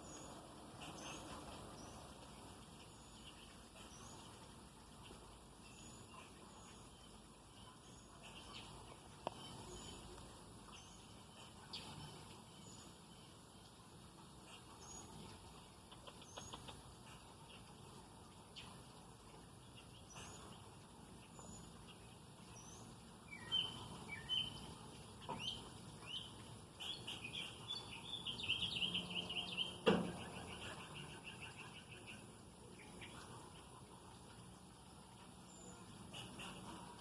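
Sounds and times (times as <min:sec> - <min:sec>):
birds chirping and trilling: 0:00.0 - 0:37.0.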